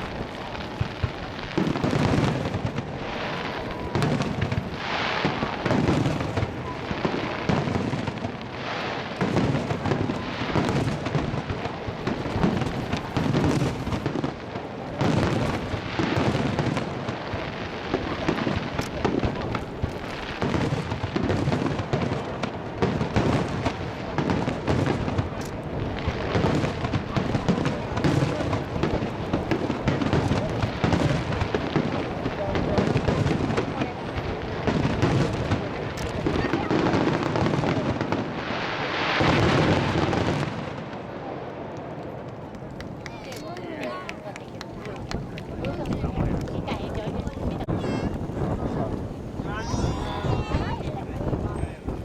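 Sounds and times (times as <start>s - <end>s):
fireworks booming and crackling: 0.0s - 52.0s.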